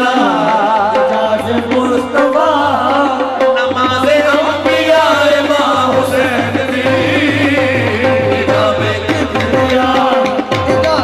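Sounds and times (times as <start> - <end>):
man singing ornamented line: 0.0 - 11.0
sustained accompaniment: 0.0 - 11.0
tabla drumming: 0.0 - 11.0.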